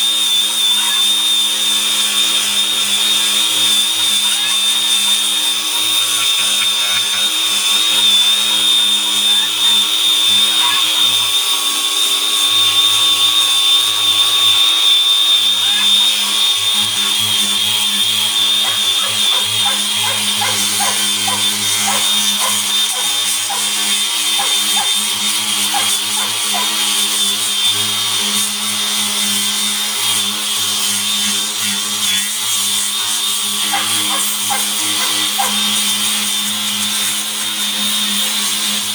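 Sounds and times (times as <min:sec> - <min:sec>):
electric grinder sanding hide: 0:00.0 - 0:38.9.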